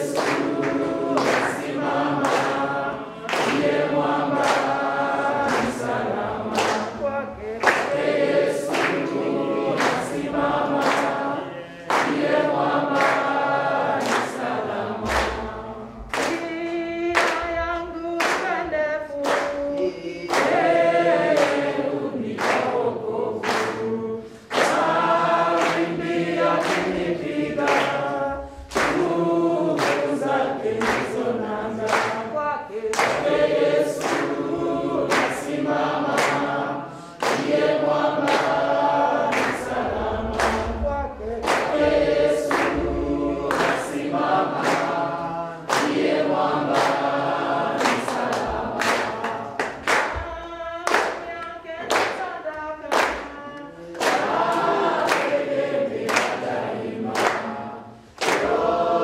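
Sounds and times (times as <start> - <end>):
congregation singing a hymn: 0.0 - 59.0
hand-clapping on the beat: 0.0 - 59.0.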